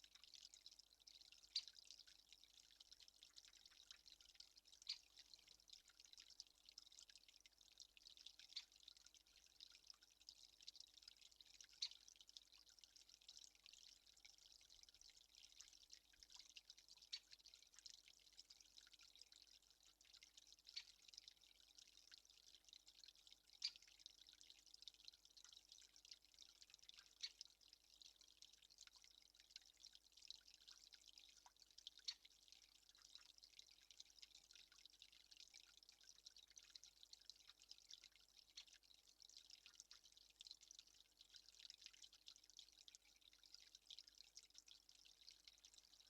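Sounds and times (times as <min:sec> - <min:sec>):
small ticks and clicks: 0:00.0 - 0:46.0.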